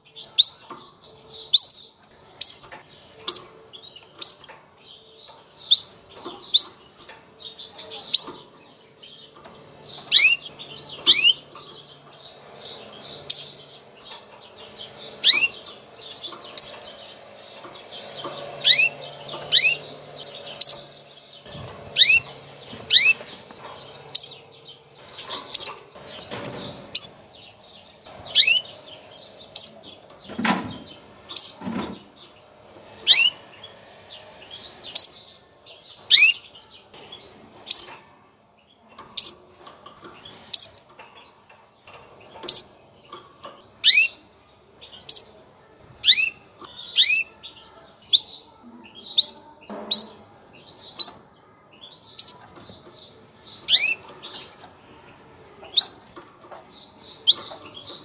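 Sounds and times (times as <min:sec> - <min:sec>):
canary chirps: 0:00.0 - 0:58.0.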